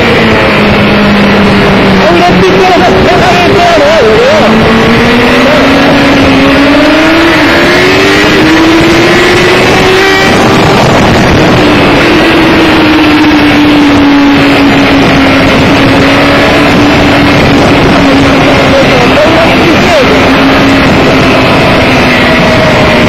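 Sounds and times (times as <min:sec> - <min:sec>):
motorcycle engine at high revs: 0:00.0 - 0:23.0
wind rush on microphone: 0:00.0 - 0:23.0.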